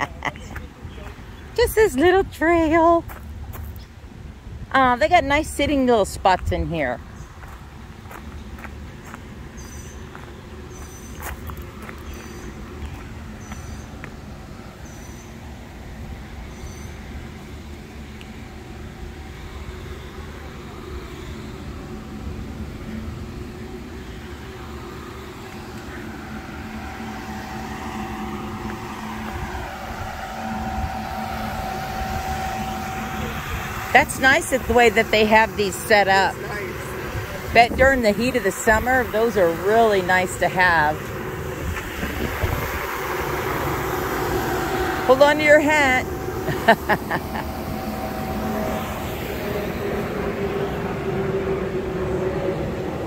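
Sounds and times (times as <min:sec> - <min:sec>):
cooling fan humming and whining: 0:00.0 - 0:53.0.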